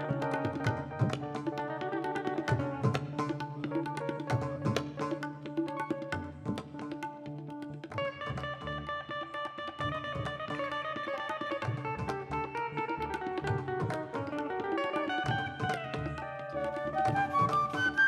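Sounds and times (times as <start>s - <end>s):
hand drum strokes: 0.0s - 8.7s, 9.8s - 18.0s
plucked strings: 0.0s - 18.0s.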